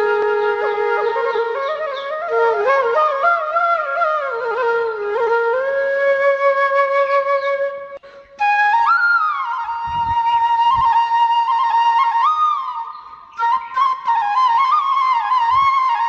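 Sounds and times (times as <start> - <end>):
solo flute melody: 0.0 - 16.0.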